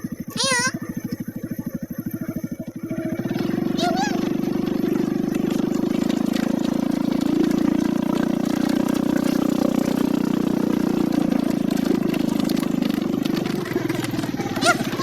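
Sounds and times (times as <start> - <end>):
small motorcycle engine idling: 0.0 - 15.0.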